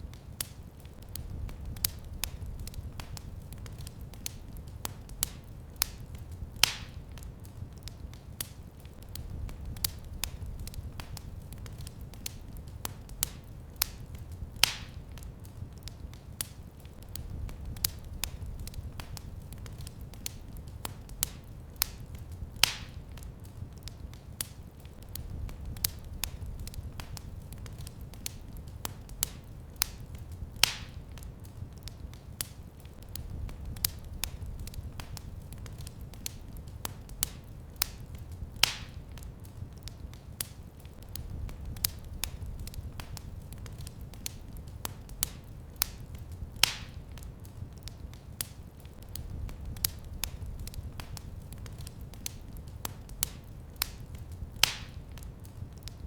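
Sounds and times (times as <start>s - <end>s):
loud fire pops: 0.0s - 56.0s
low fire rumble: 0.0s - 56.0s
wood fire crackling: 0.0s - 56.0s.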